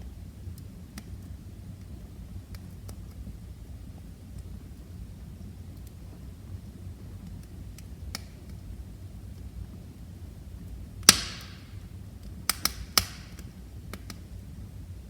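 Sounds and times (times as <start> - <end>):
fire pops: 0.0 - 9.8, 10.6 - 14.6
fireplace fire crackling: 0.0 - 15.0.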